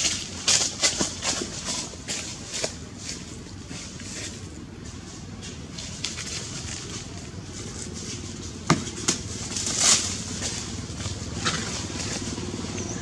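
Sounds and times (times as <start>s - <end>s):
crunching rustle: 0.0s - 13.0s
dry leaves crackling and rustling: 0.0s - 13.0s.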